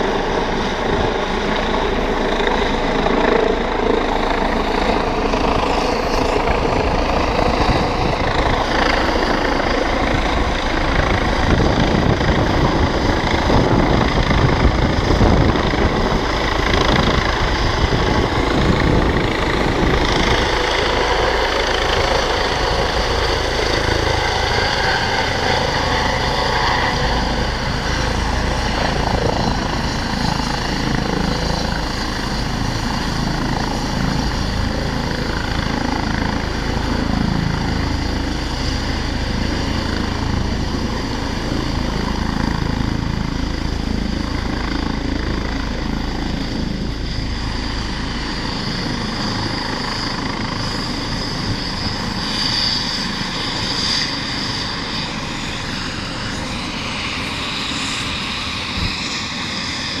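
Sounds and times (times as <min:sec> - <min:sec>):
helicopter rotor rumble: 0:00.0 - 1:00.0
high turbine whine: 0:00.0 - 1:00.0.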